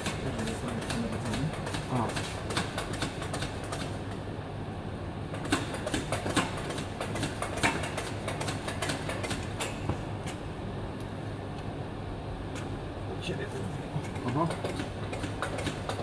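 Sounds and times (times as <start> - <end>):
low workshop hum: 0.0 - 16.0.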